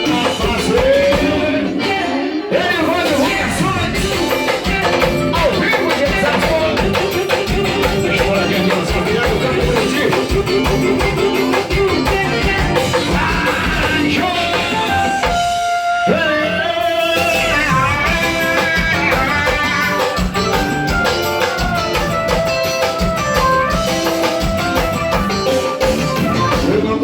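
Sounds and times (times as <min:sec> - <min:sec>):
live band dance music: 0:00.0 - 0:27.0.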